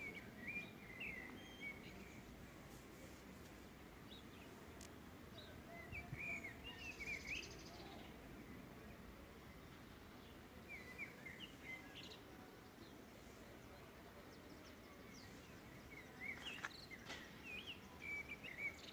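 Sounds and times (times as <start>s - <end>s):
outdoor background hiss: 0.0s - 18.9s
songbirds chirping: 0.0s - 18.9s.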